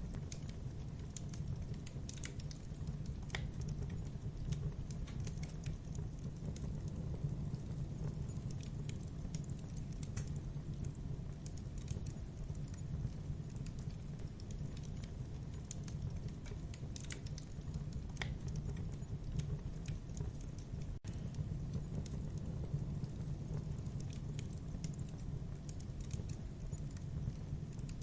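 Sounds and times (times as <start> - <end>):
fire flames rushing: 0.0 - 28.0
wood fire crackling and popping: 0.0 - 28.0.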